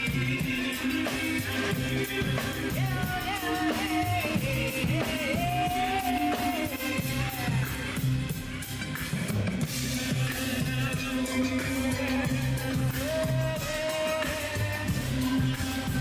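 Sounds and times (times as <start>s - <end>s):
person singing: 0.0s - 8.1s, 9.7s - 16.0s
band music with drums bass guitar: 0.0s - 16.0s.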